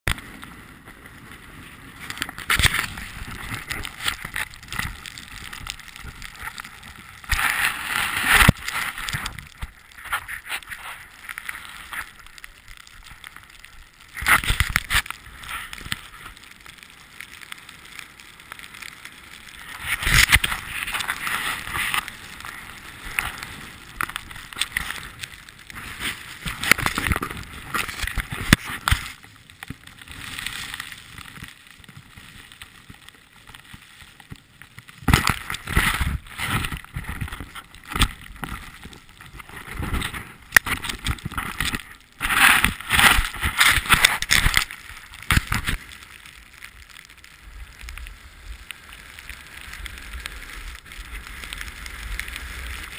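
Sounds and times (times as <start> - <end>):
camera housing rustling in snow: 0.1 - 16.6, 18.8 - 52.9.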